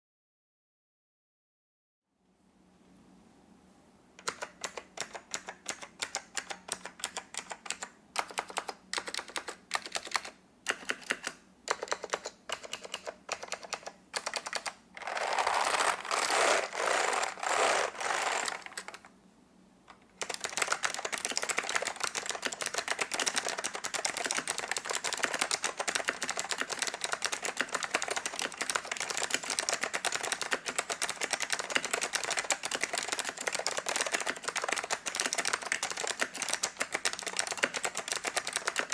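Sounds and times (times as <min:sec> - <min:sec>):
mechanical keyboard typing: 0:04.2 - 0:19.1, 0:20.2 - 0:38.9.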